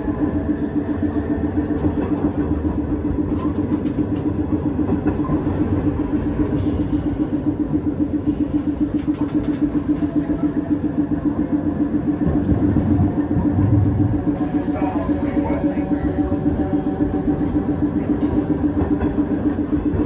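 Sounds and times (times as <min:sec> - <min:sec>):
low rumble and rattle: 0:00.0 - 0:20.0
streetcar motor hum: 0:00.0 - 0:20.0.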